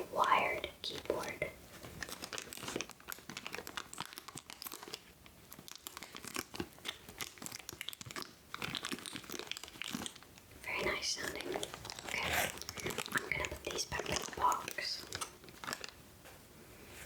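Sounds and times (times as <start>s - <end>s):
plastic bag crinkling: 0.8s - 16.0s.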